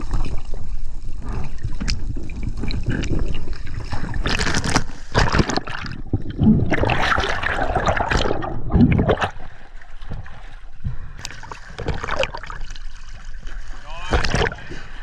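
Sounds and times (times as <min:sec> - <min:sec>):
water sloshing and trickling: 0:00.0 - 0:15.0.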